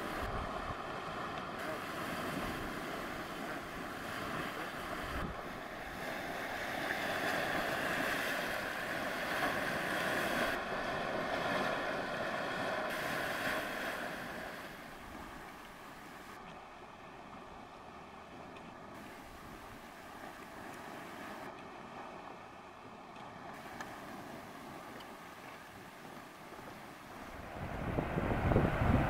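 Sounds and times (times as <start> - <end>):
boiling mud spring churning: 0.0 - 29.0.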